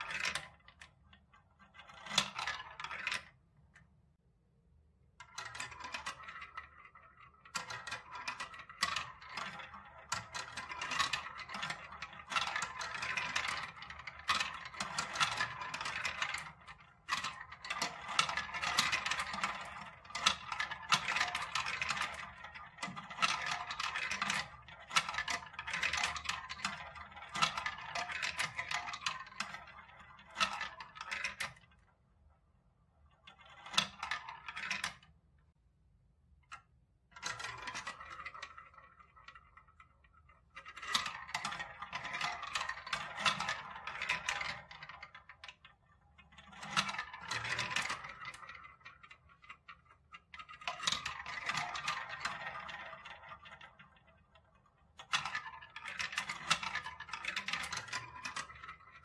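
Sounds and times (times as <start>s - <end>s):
plastic marbles rattling through tubes: 0.0s - 3.4s, 5.2s - 32.0s, 32.9s - 35.2s, 37.1s - 59.0s.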